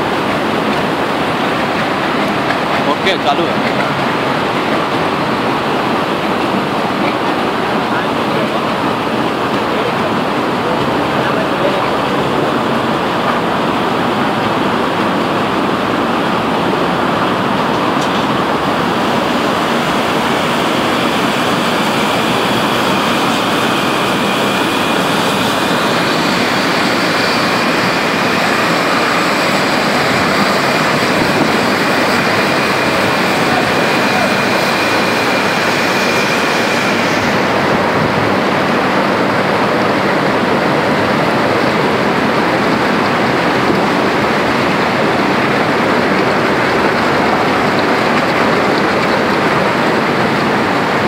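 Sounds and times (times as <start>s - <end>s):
blast furnace roar: 0.0s - 51.0s.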